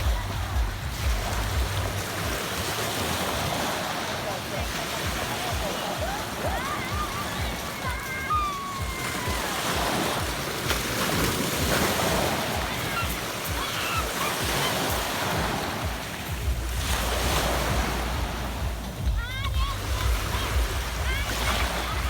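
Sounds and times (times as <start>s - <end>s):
waves washing over pebble beach: 0.0s - 22.0s
wind buffeting microphone: 0.0s - 22.0s.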